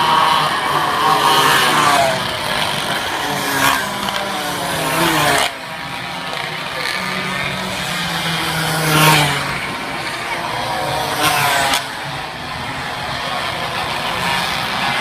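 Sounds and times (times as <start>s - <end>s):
minibike engines revving: 0.0s - 15.0s
minibike passing by: 0.0s - 15.0s.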